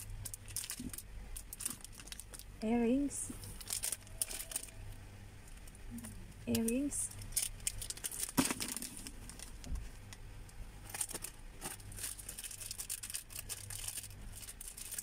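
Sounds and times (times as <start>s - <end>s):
plastic packets crinkling: 0.0s - 2.6s, 3.4s - 10.2s, 10.8s - 15.0s.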